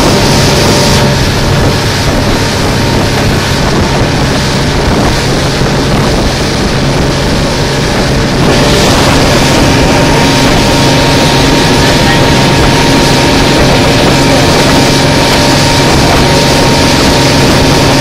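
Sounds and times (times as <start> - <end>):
motorboat engine: 0.0 - 18.0
water along the hull: 0.0 - 18.0
wind on microphone: 0.0 - 18.0.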